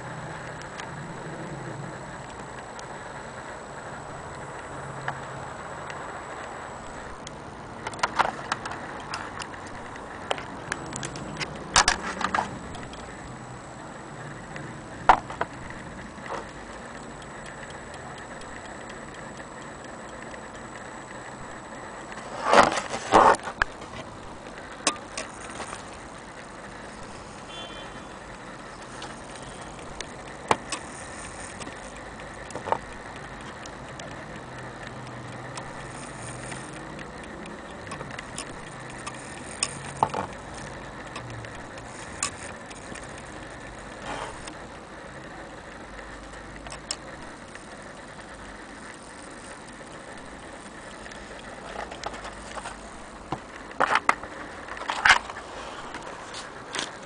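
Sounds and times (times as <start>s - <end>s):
sharp metallic clicks: 4.0s - 57.0s
clock movement rattling: 6.4s - 57.0s.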